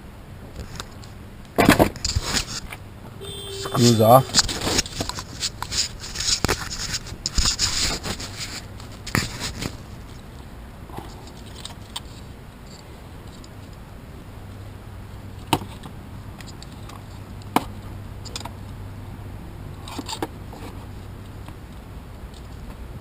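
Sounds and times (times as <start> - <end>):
faint low hum: 2.1 - 23.0.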